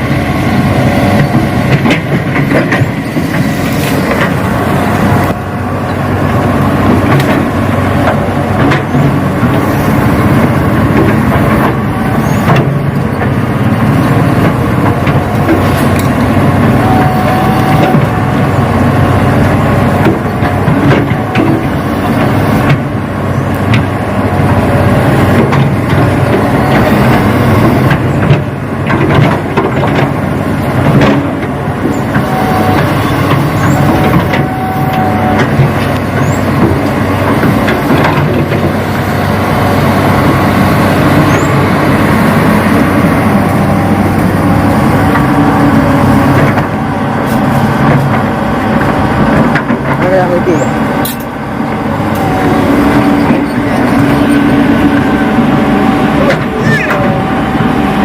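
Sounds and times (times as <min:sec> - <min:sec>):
model excavator engine drone: 0:00.0 - 0:58.0.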